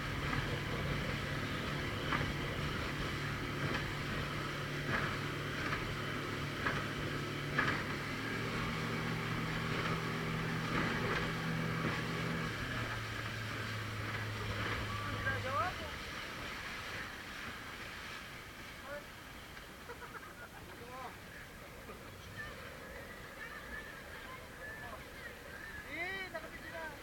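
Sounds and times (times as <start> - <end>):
motorboat engine running: 0.0 - 27.0
water noise: 0.0 - 27.0
wind: 0.0 - 27.0.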